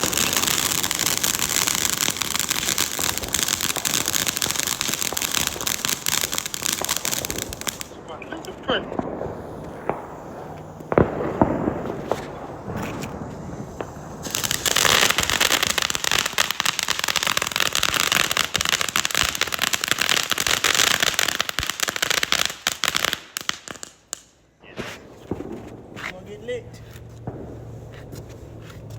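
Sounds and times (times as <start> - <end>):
fireworks bangs: 0.0 - 28.9
fireworks crackling pops: 0.0 - 28.9.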